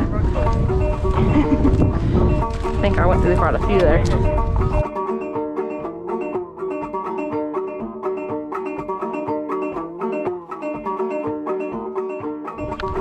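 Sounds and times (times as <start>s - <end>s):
banjo picking a quick tune: 0.0s - 13.0s.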